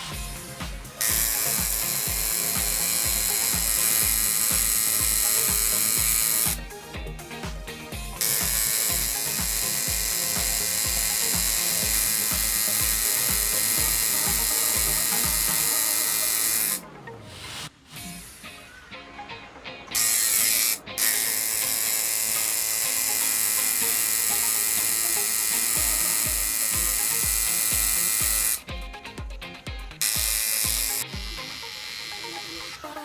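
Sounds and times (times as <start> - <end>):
electronic music with thumping beat: 0.0 - 16.8, 23.4 - 33.0
electric tattoo machine buzzing: 0.0 - 18.8, 19.9 - 33.0.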